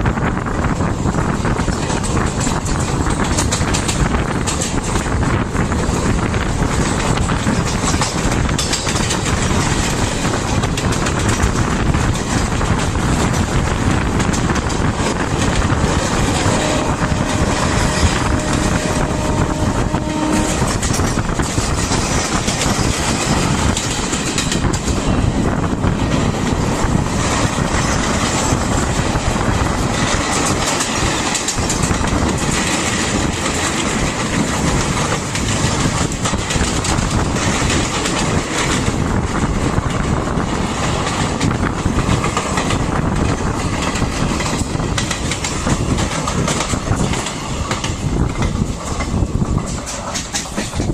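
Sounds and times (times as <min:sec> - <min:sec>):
train wheels on rail: 0:00.0 - 0:50.9
wind on microphone: 0:00.0 - 0:50.9.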